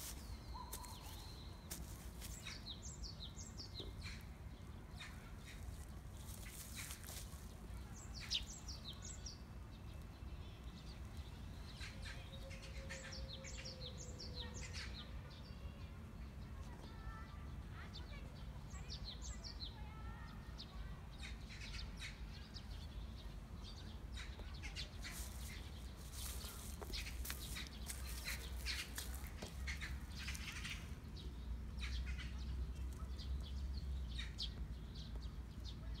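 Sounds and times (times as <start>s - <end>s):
small birds chirping: 0.0s - 15.6s, 16.4s - 36.0s.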